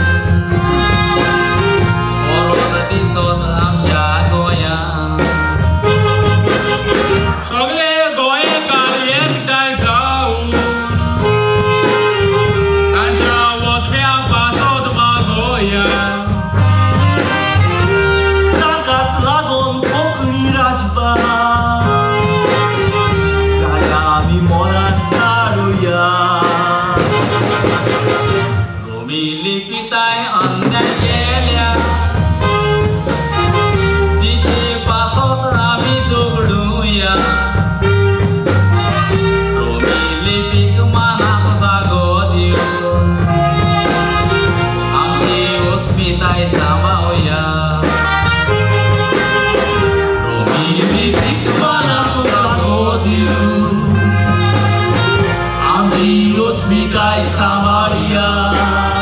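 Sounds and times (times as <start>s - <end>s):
band with bass and drums: 0.0s - 59.0s
person singing: 0.0s - 59.0s.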